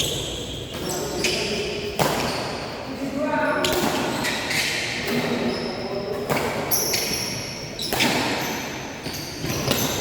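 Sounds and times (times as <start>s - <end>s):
shoe squeaks: 0.0s - 2.9s, 3.5s - 10.0s
racket hitting shuttlecock: 0.1s - 2.7s, 3.6s - 10.0s.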